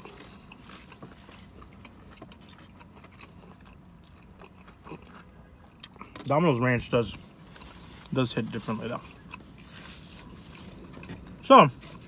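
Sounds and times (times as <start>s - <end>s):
soft chewing and mouth noises: 0.0s - 12.0s.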